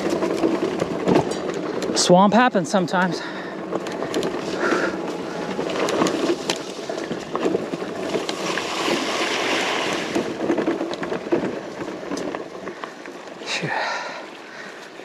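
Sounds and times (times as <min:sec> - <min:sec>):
bike tyres crunching on gravel: 0:00.0 - 0:15.0.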